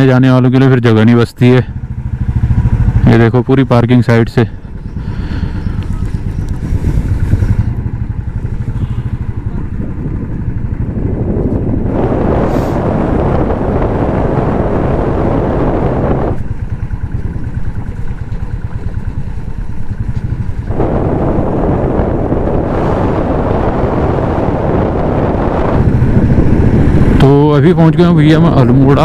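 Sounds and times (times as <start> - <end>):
motorcycle engine running: 0.0 - 29.0
wind on microphone: 4.5 - 29.0.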